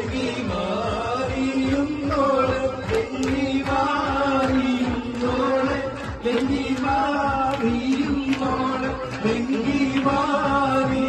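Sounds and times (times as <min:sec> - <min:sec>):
song with sung melody and beat: 0:00.0 - 0:11.0.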